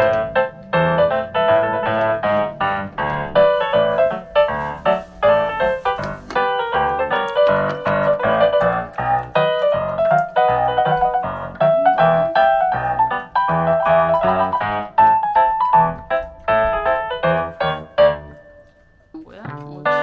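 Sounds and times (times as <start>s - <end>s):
playful staccato piano tune: 0.0s - 20.0s.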